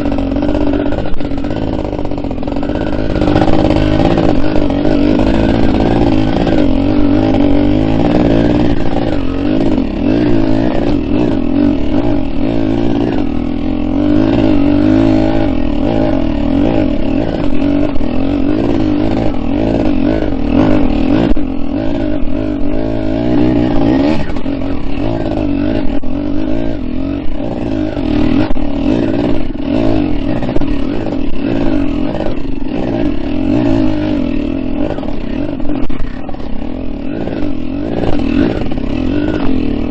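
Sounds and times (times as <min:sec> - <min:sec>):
two-stroke dirt bike engine revving: 0:00.0 - 0:39.9.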